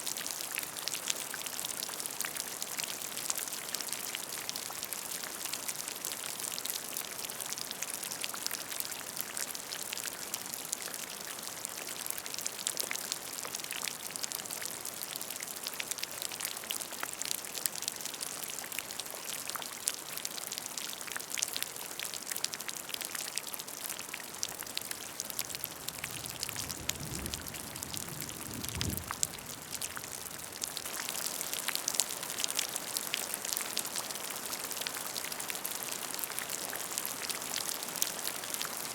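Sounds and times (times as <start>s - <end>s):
rain falling on a puddle: 0.0s - 38.9s.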